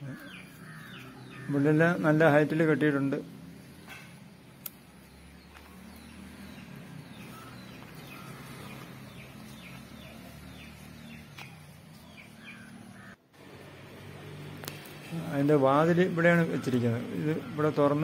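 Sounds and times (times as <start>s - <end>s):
birds chirping: 0.0s - 13.2s, 14.2s - 18.0s.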